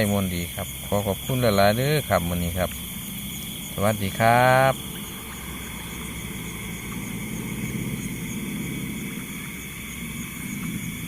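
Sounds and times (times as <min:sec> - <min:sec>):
insect pulsing trill: 0:00.0 - 0:11.0
insects trilling: 0:00.0 - 0:11.0.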